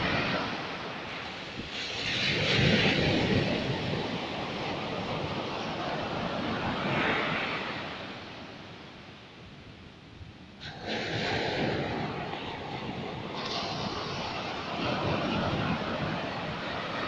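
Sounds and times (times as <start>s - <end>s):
steady rushing noise: 0.0s - 9.5s, 10.4s - 17.0s
sea waves breaking on a beach: 0.0s - 17.0s.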